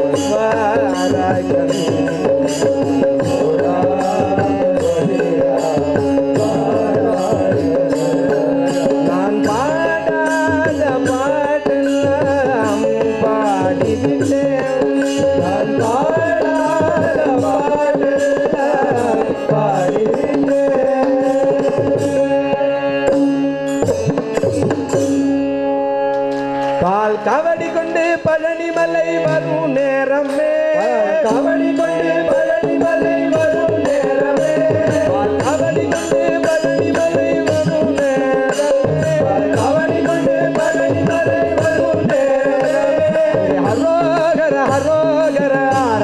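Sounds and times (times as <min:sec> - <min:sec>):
person singing: 0:00.0 - 0:24.0, 0:26.6 - 0:46.0
hand drum rhythm: 0:00.0 - 0:25.2, 0:30.9 - 0:46.0
harmonium drone: 0:00.0 - 0:46.0.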